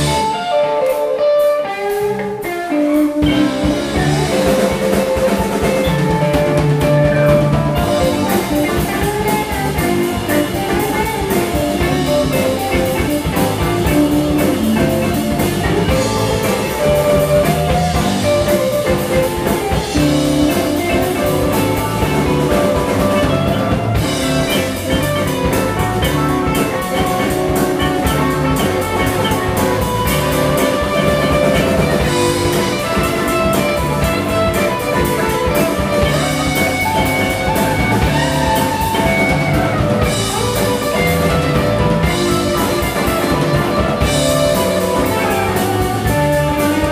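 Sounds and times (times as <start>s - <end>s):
drum kit: 0.0s - 46.9s
electric guitars: 0.0s - 46.9s
keyboard: 0.0s - 46.9s.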